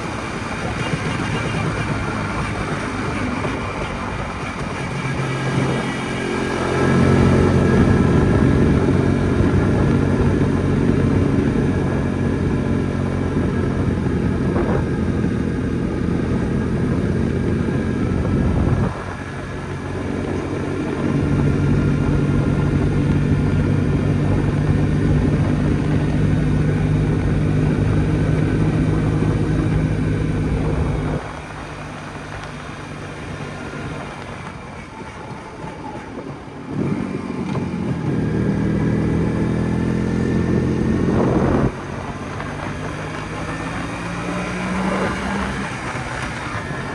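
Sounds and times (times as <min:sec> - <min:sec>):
two-stroke motorcycle engine: 0:00.0 - 0:46.9.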